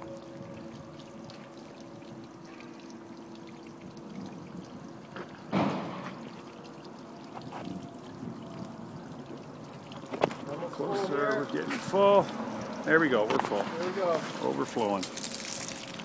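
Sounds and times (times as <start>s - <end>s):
water pouring into plastic jug: 0.0s - 16.0s.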